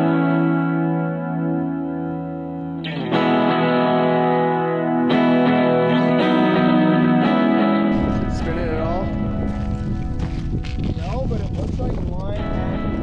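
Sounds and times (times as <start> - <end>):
guitar sustained chords: 0.0 - 13.0.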